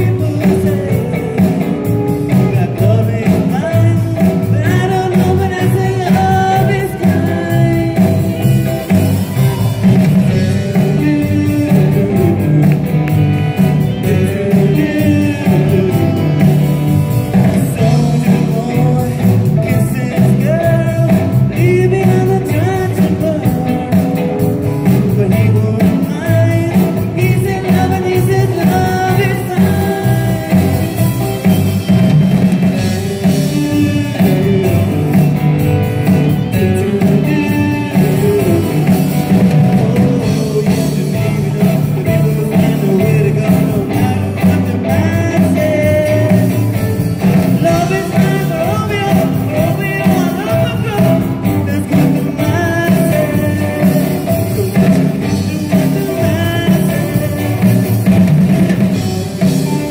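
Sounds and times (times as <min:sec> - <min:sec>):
bass: 0:00.0 - 0:59.9
drums: 0:00.0 - 0:59.9
electric guitars: 0:00.0 - 0:59.9
keyboard: 0:00.0 - 0:59.9
person singing lead vocal: 0:00.0 - 0:59.9.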